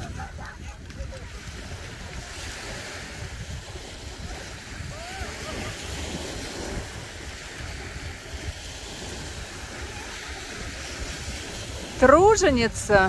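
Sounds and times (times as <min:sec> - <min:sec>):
surf washing onto beach: 0:00.0 - 0:13.0
wind rumbling on microphone: 0:00.0 - 0:13.0.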